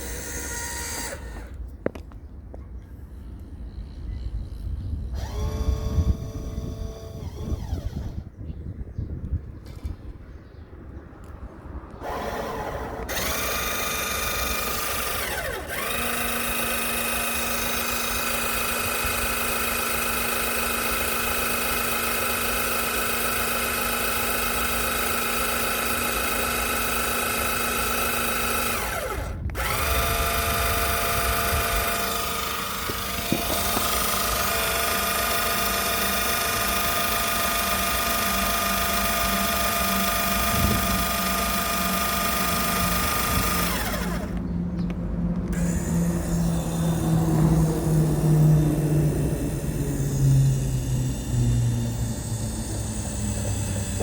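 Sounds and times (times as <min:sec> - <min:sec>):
electric motors whining: 0:00.0 - 0:02.2, 0:02.9 - 0:08.5, 0:11.2 - 0:54.0.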